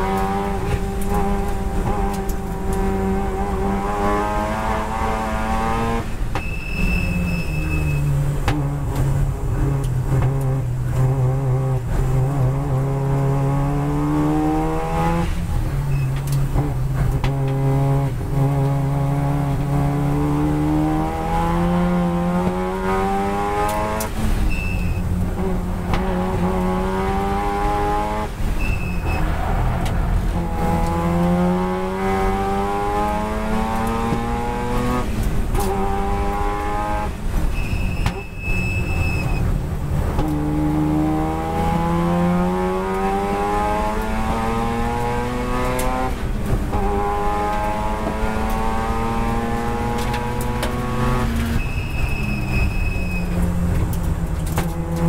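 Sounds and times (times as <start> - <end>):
rotary engine revving through upshifts: 0.0 - 55.0.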